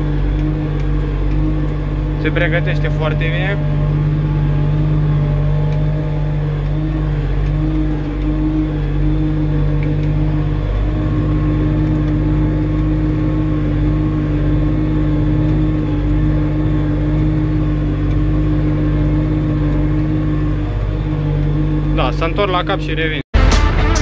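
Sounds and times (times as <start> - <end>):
tractor engine under load: 0.0 - 23.1.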